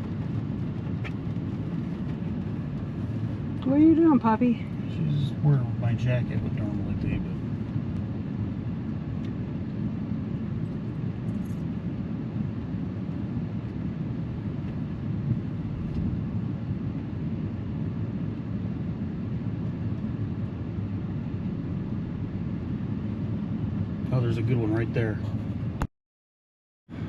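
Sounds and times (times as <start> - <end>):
car cabin rumble: 0.0 - 11.7, 13.4 - 18.3, 19.4 - 25.9.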